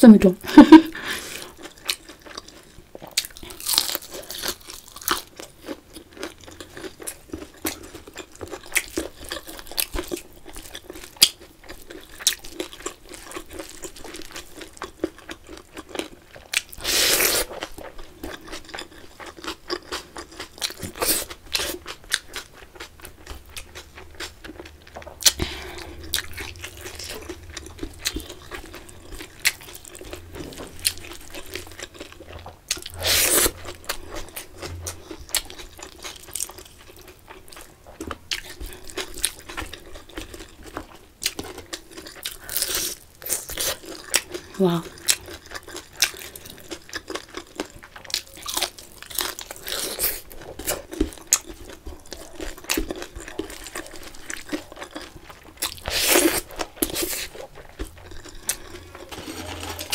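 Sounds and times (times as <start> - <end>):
chewing and crunching food: 0.2 - 59.9.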